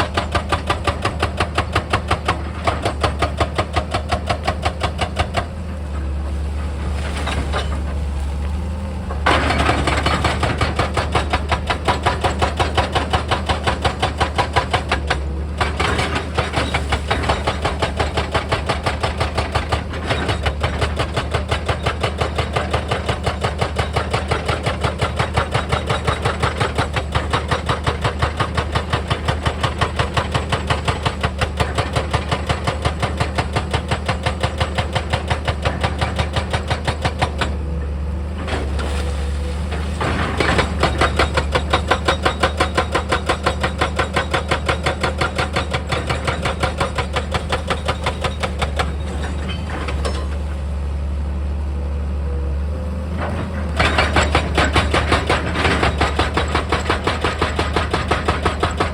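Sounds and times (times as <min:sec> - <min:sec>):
diesel machinery running: 0:00.0 - 0:33.1, 0:34.2 - 0:58.9.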